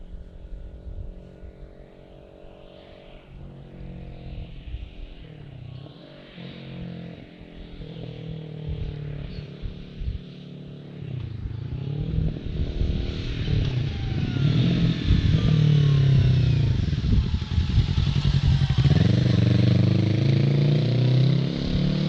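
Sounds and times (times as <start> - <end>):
motorcycle engine revving: 1.9 - 22.0.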